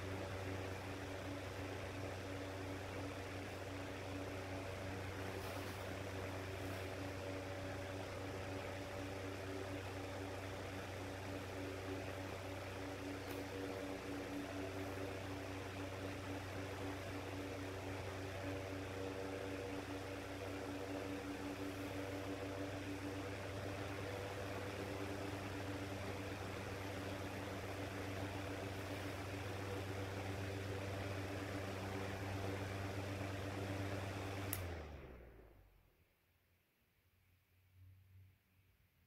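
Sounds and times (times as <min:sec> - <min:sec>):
electric fan motor humming: 0:00.0 - 0:35.7.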